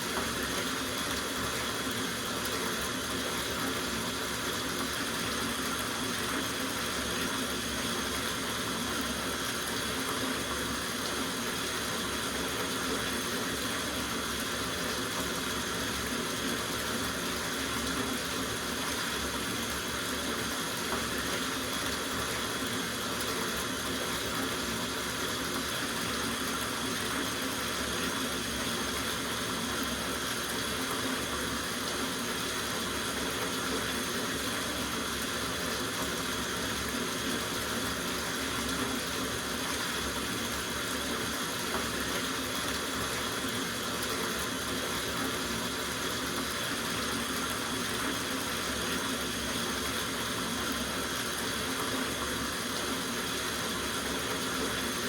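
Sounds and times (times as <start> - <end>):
tap water running into bathtub: 0.0 - 55.0.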